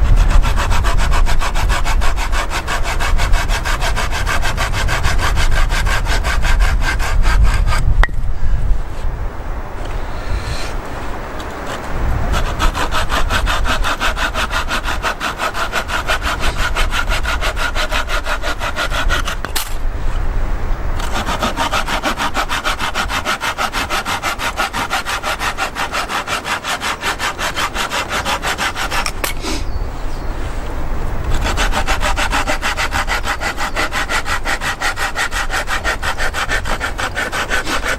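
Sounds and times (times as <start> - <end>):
hand saw cutting wood: 0.0 - 8.1, 9.8 - 20.3, 21.0 - 29.7, 31.2 - 37.9.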